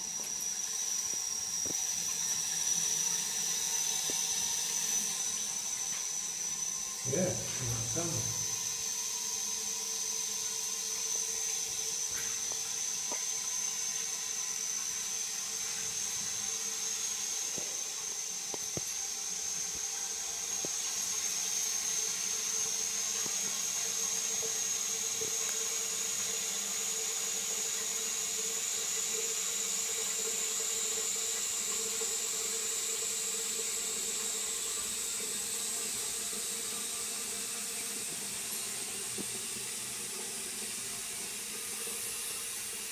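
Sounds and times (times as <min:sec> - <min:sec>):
toilet cistern water hissing: 0:00.0 - 0:42.9.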